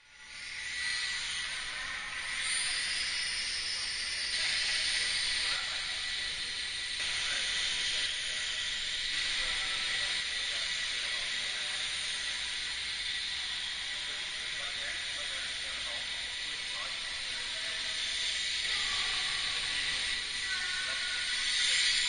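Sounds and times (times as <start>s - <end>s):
model aircraft motors whining: 0.0s - 22.0s
steady hiss: 0.3s - 22.0s.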